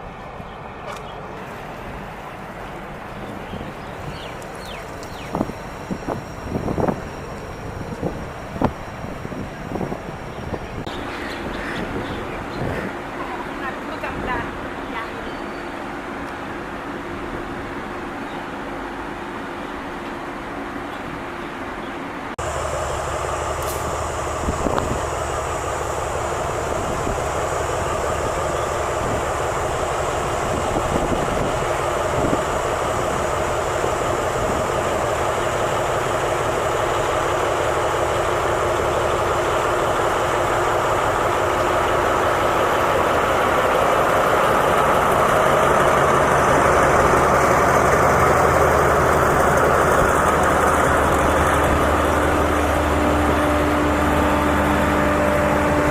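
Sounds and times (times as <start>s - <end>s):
diesel locomotive engine hum: 0.0s - 55.9s
train rolling noise: 0.0s - 55.9s.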